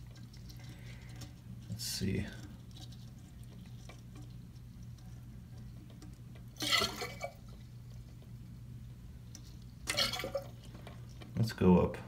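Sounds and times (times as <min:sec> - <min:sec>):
rattle or splash: 0:00.0 - 0:08.2, 0:09.4 - 0:11.4
water dripping in toilet tank: 0:00.0 - 0:11.4.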